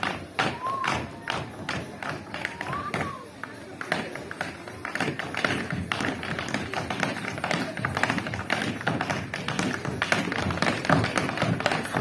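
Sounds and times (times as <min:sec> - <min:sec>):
music playing: 0:00.0 - 0:12.0
tap shoes clicking: 0:00.0 - 0:12.0.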